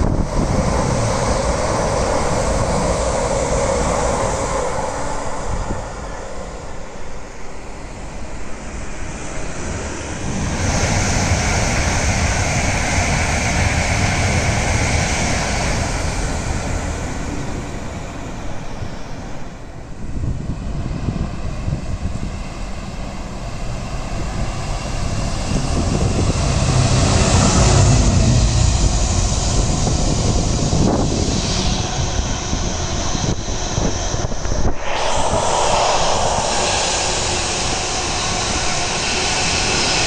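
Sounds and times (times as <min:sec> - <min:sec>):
electric train passing fast: 0:00.0 - 0:40.0
steady rushing noise: 0:00.0 - 0:40.0.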